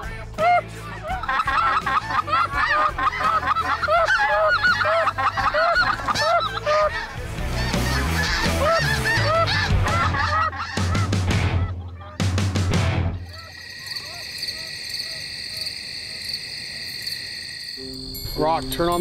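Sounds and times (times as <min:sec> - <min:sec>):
geese honking: 0:00.4 - 0:16.7.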